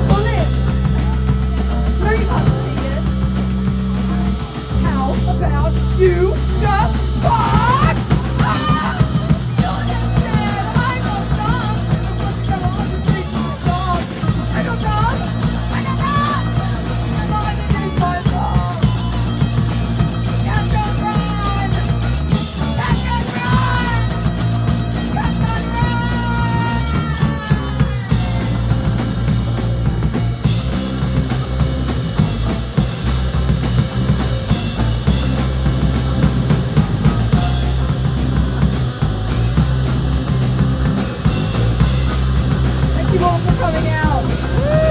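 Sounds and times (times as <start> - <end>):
punk rock band playing: 0.0 - 44.9.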